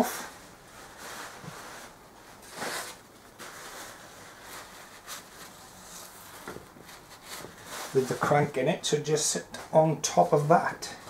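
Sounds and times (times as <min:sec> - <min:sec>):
rustling of parts and rags: 0:00.0 - 0:11.0.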